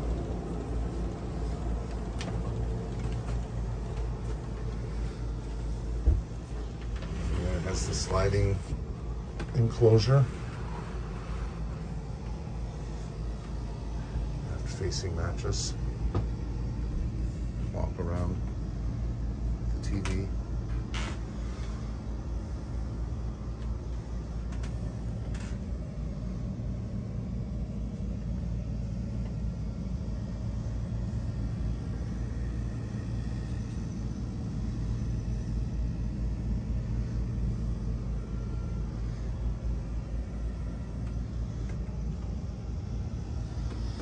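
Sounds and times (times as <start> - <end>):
faint hum: 0.0 - 44.0
low rumble: 0.0 - 44.0.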